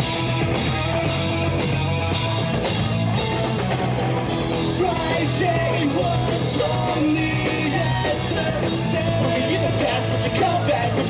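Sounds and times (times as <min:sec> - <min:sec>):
bass: 0:00.0 - 0:11.0
drum kit: 0:00.0 - 0:11.0
electric guitar: 0:00.0 - 0:11.0.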